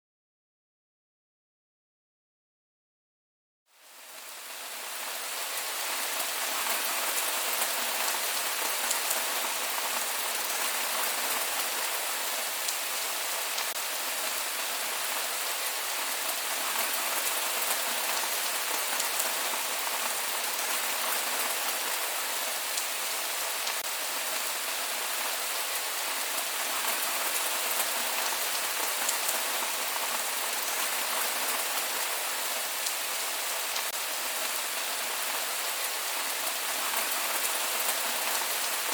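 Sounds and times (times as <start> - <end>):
steady rain falling: 3.7 - 38.9.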